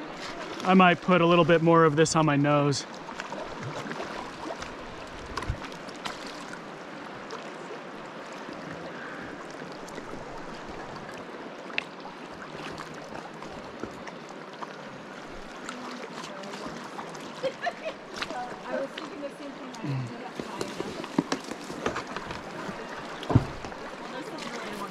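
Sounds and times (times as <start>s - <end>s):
creek water flowing: 0.0s - 24.9s.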